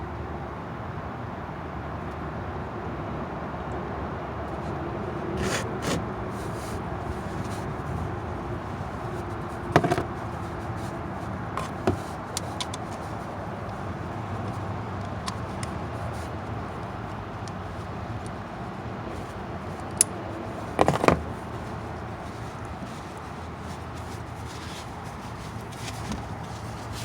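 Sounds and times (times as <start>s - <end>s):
road traffic background noise: 0.0s - 27.0s.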